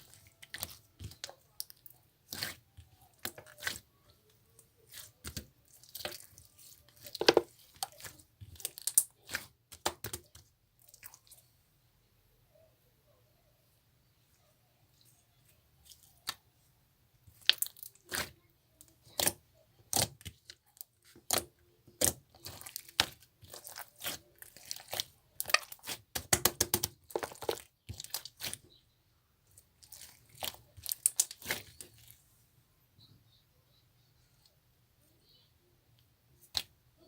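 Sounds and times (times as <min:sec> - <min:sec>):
irregular crackling and crinkling: 0:00.0 - 0:11.6, 0:14.0 - 0:33.4, 0:35.9 - 0:37.0.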